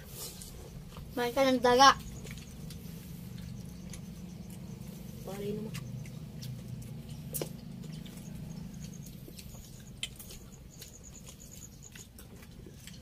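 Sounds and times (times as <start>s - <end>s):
rapid high-pitched chirping: 0.0s - 12.8s
steady low hum: 0.0s - 13.0s.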